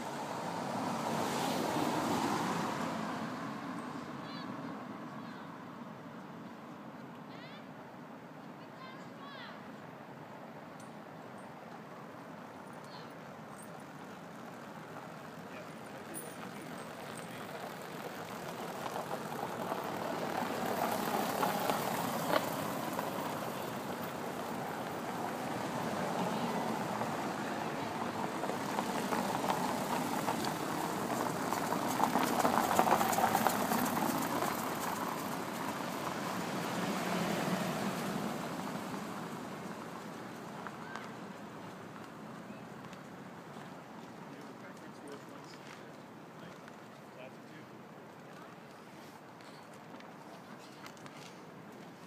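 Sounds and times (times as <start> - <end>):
car tyres and engine rumble: 0.0 - 5.0, 10.6 - 52.0.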